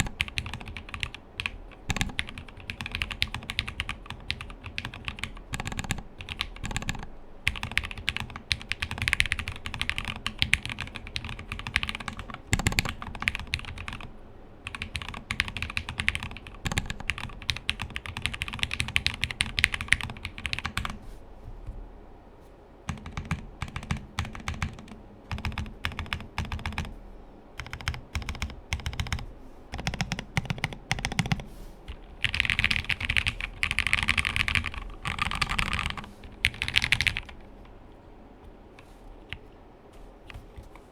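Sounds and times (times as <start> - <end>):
mechanical keyboard typing: 0.0 - 21.0, 22.9 - 27.0, 27.6 - 37.5.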